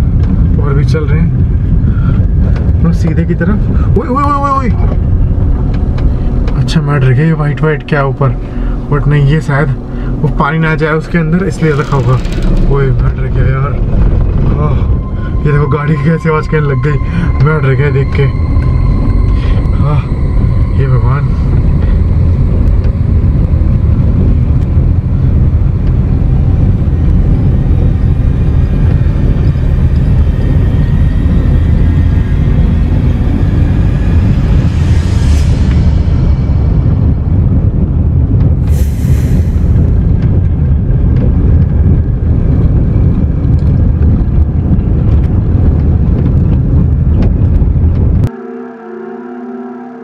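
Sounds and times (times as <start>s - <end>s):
car engine and tyres rumbling: 0.0s - 48.4s.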